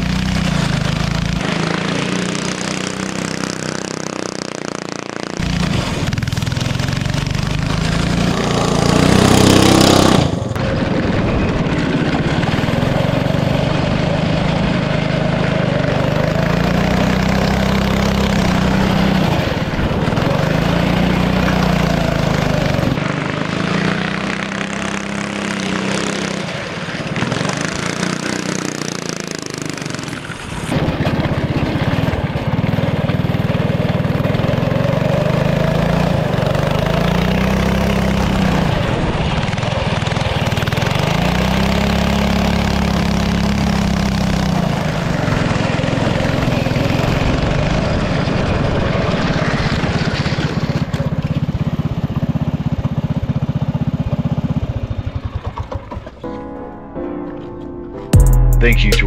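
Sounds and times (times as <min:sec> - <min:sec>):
small gasoline engine revving: 0:00.0 - 0:56.1.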